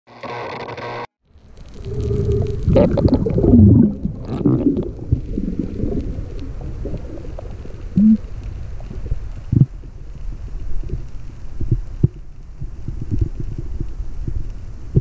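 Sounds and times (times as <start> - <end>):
muffled underwater rushing: 1.3 - 15.0
gurgling bubbles: 1.4 - 15.0.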